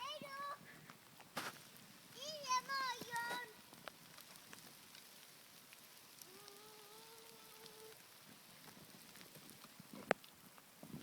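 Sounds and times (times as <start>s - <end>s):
faint rain patter: 0.0s - 11.0s.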